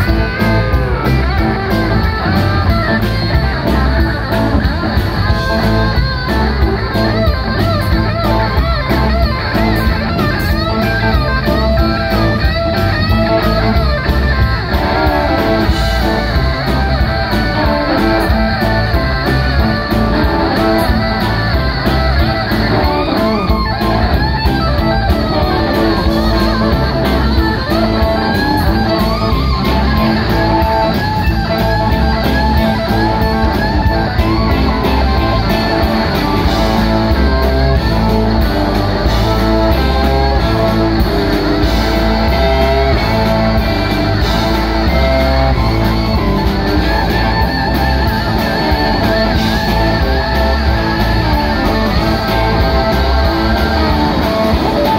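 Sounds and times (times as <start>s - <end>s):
bass guitar: 0.0s - 54.9s
electric guitar lead: 0.0s - 54.9s
steady drum beat: 0.0s - 54.9s.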